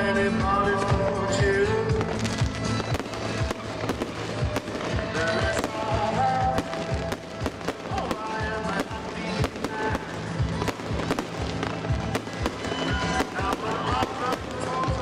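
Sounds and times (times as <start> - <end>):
music: 0.0 - 15.0
fireworks bangs and crackles: 0.3 - 15.0.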